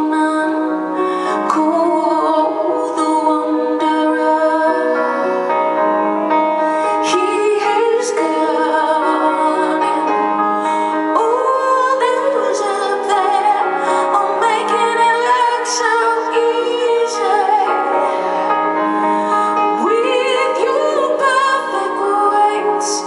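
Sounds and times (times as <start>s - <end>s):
woman singing with vibrato: 0.0s - 5.2s, 6.9s - 10.2s, 11.0s - 23.0s
instrumental accompaniment: 0.0s - 23.0s.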